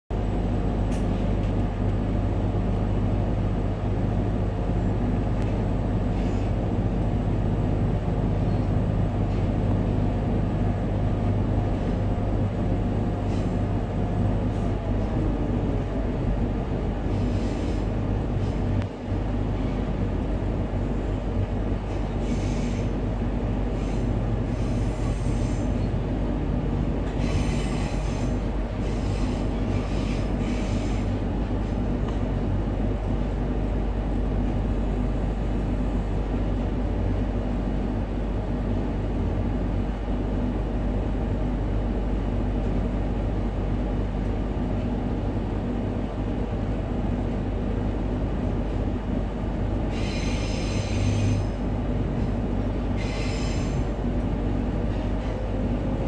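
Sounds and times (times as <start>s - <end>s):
train rumble and hum: 0.0s - 56.0s.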